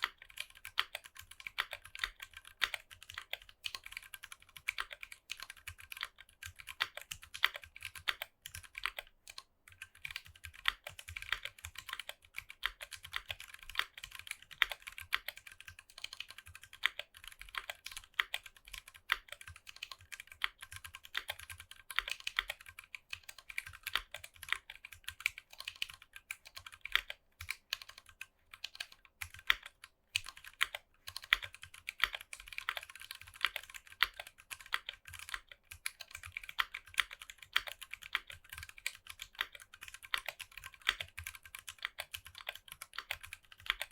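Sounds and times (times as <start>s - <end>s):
clicky mechanical keyboard typing: 0.0s - 43.9s.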